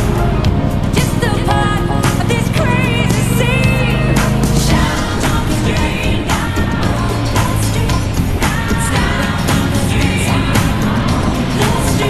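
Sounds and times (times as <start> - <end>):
music with steady beat: 0.0 - 12.0
sung vocals: 0.0 - 12.0.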